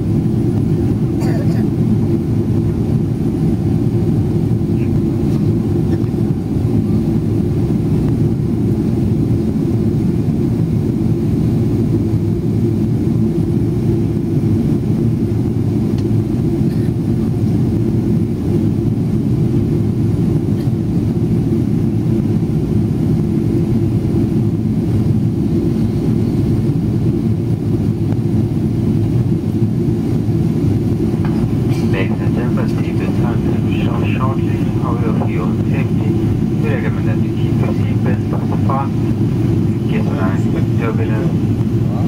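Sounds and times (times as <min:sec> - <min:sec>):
jet cabin engine drone: 0:00.0 - 0:42.0.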